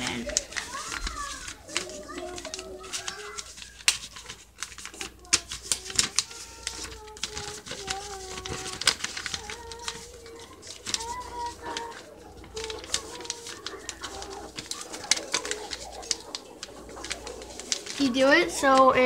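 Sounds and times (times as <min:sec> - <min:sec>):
paper crinkling: 0:00.0 - 0:19.0.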